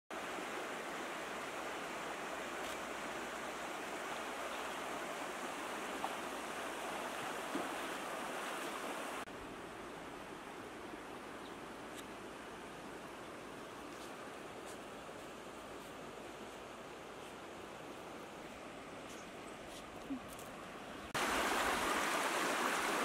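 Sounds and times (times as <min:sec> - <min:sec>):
floodwater rushing: 0:00.1 - 0:19.1, 0:20.1 - 0:23.0.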